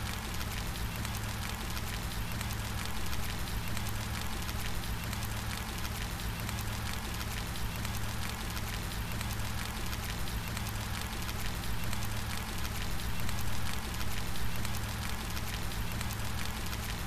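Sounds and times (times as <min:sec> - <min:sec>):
steady rain patter: 0:00.0 - 0:17.0.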